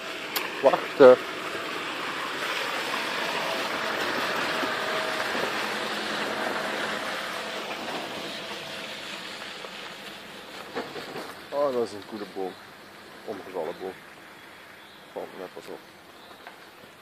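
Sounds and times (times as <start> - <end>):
car passing on dirt track: 0.0 - 17.0.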